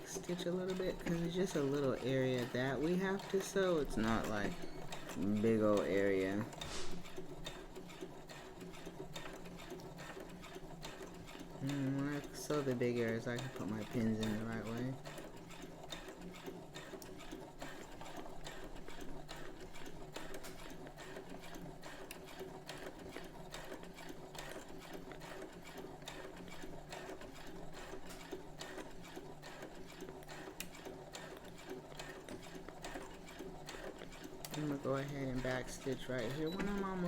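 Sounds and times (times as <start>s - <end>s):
sewing machine stitching: 0.0s - 37.0s.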